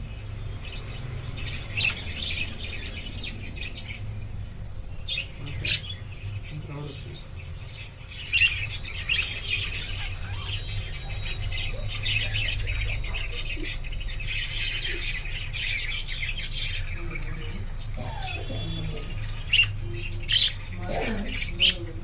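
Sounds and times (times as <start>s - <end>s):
budgies chattering and squawking: 0.0s - 22.0s.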